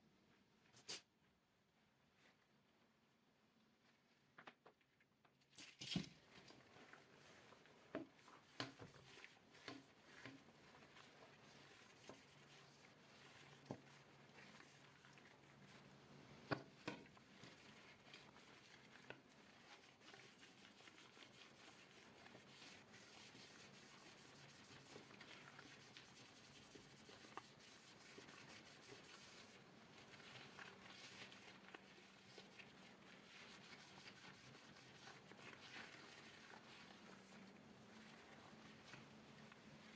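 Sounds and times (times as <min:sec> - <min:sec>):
rubbing on desk objects: 0:06.4 - 0:15.9, 0:16.5 - 0:39.9.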